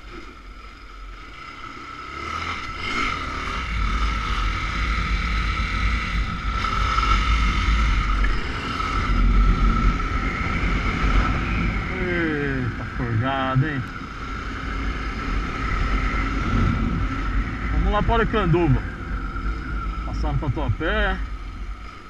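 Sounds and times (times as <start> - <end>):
motorcycle engine revving: 0.0 - 22.0
wind rumble on microphone: 3.5 - 22.0.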